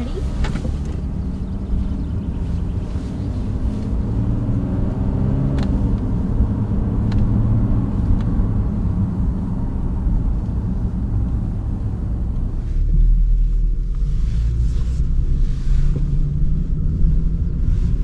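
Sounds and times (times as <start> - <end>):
car engine and exhaust rumble: 0.0 - 18.0.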